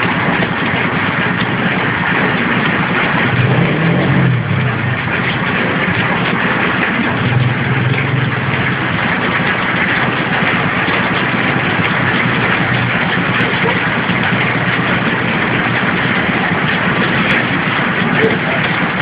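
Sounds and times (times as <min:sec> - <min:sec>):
packing machine running: 0:00.0 - 0:19.0.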